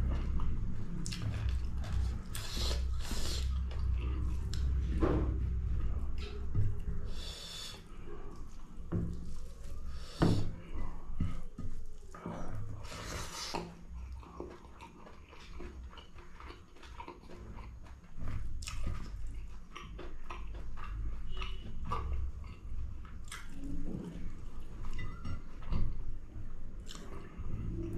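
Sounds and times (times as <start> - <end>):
close-up chewing: 0.0 - 4.9, 5.6 - 27.9.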